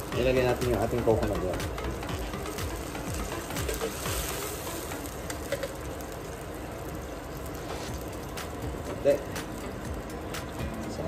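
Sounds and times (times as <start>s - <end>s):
meat sizzling in a wok: 0.0s - 10.6s.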